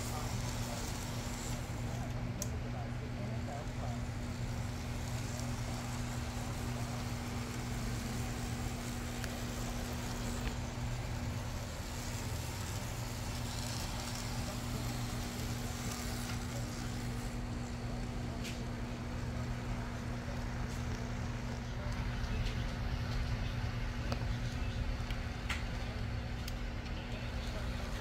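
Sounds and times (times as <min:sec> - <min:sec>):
model train humming: 0:00.0 - 0:28.0.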